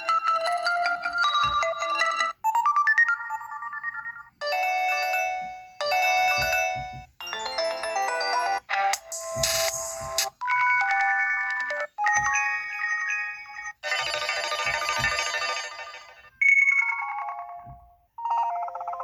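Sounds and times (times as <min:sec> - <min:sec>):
phone ringtone melodies: 0:00.0 - 0:19.0.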